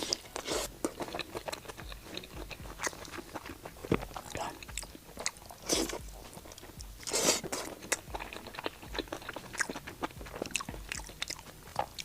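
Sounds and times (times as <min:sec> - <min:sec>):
chewing crunchy fried food: 0:00.0 - 0:12.0.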